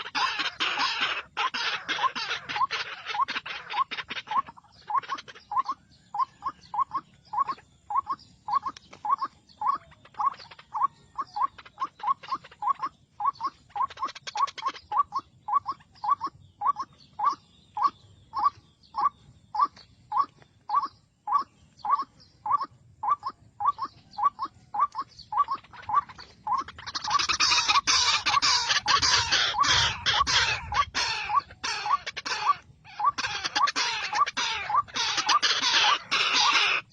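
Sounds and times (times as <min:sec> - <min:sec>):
waterhen repeated call: 0:00.0 - 0:36.9.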